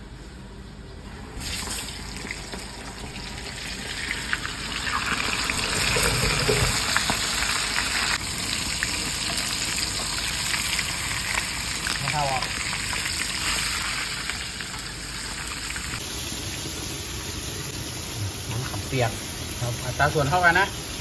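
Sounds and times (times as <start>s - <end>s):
fish sizzling in hot oil: 1.4s - 21.0s.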